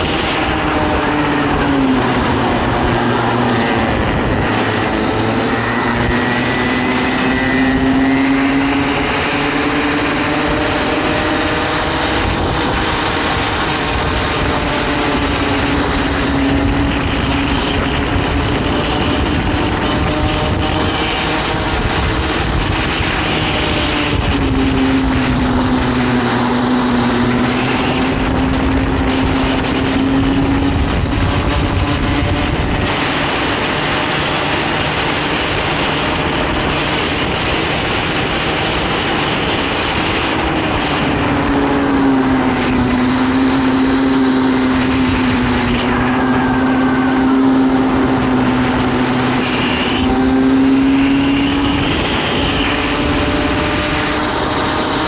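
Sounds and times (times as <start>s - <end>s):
kart engine running hard: 0.0s - 55.0s.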